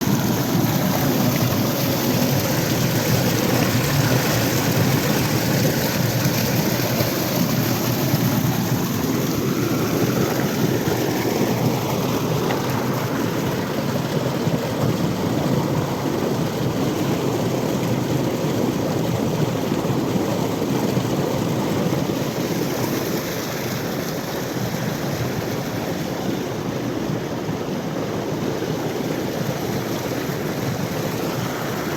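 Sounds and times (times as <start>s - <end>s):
water rushing: 0.0s - 31.9s.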